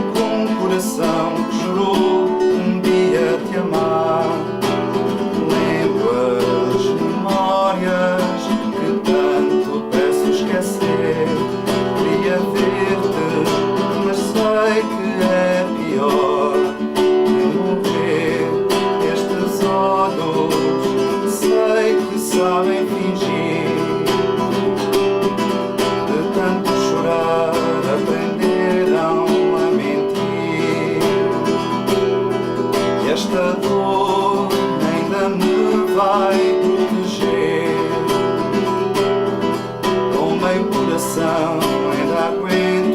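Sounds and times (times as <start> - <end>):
acoustic guitar strumming and picking: 0.0 - 42.9.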